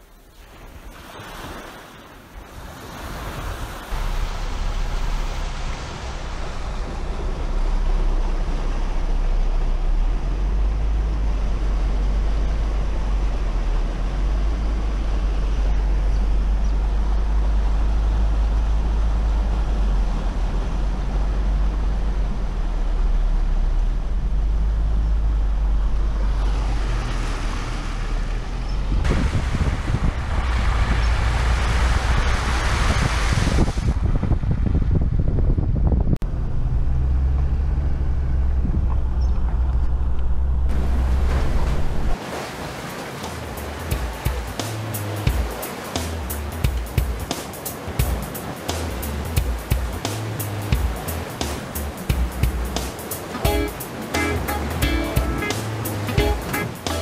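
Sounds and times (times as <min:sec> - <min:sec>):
road and wind noise: 0:00.0 - 0:57.0
vehicle engine rumble: 0:03.9 - 0:42.2, 0:43.2 - 0:57.0.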